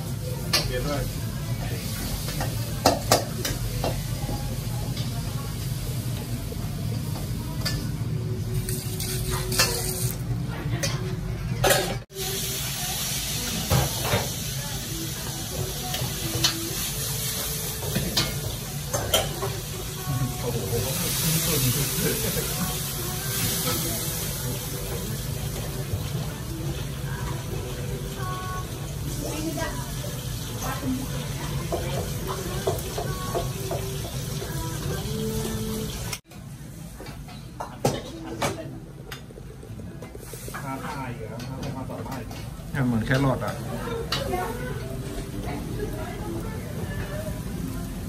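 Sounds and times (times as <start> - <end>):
food sizzling in a wok: 0.0 - 48.0.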